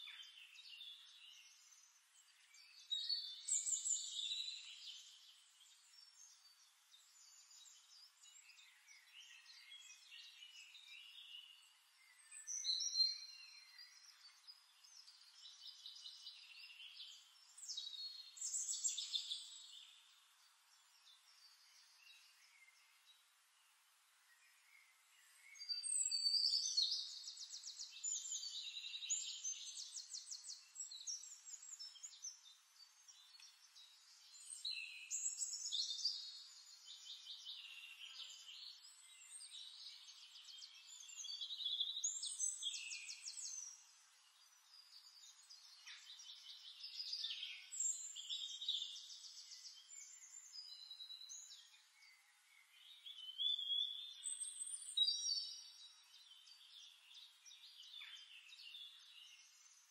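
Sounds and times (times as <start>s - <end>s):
songbirds trilling and chirping: 0.0s - 59.9s.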